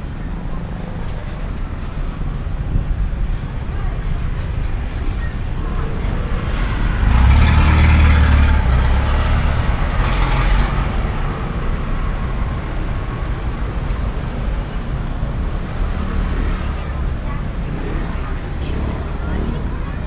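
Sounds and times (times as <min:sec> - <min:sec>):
low traffic rumble: 0:00.0 - 0:20.0
vehicle passing close: 0:01.0 - 0:20.0.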